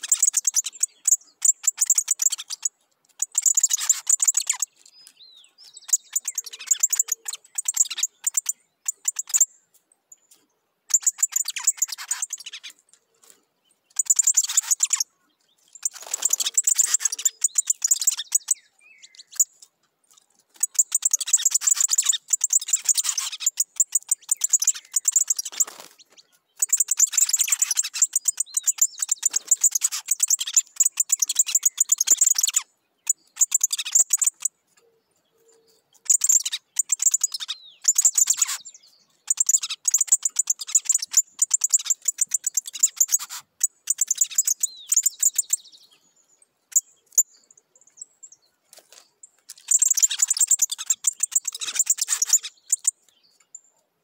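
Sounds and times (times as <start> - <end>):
bird chattering song: 0.0 - 53.8.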